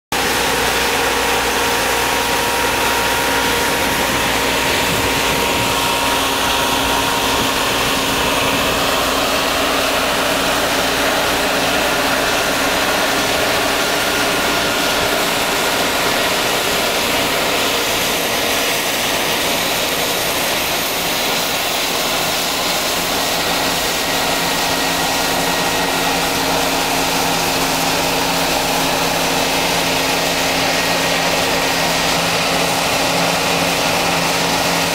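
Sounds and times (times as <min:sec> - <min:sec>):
combine harvester engine: 0:00.1 - 0:34.9
threshing machinery hum: 0:00.2 - 0:34.9.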